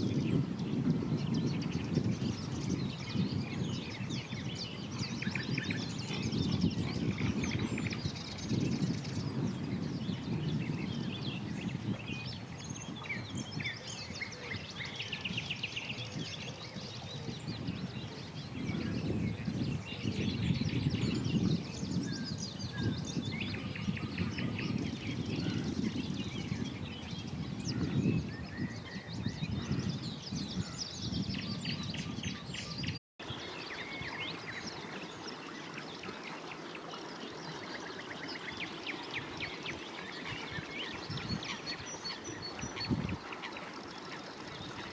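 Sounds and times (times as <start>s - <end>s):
birds singing and calling: 0.0s - 44.9s.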